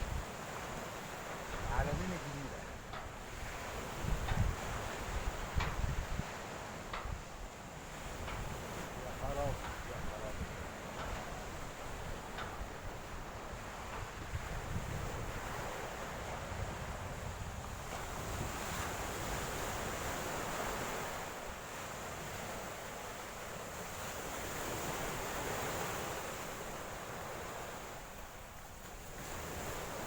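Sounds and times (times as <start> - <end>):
sea surf washing on beach: 0.0 - 30.0
wind buffeting microphone: 0.0 - 30.0.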